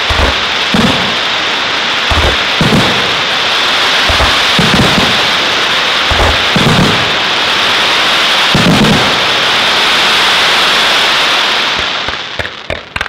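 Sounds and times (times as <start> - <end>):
fireworks booming: 0.0 - 13.0
fireworks hissing: 0.0 - 13.0.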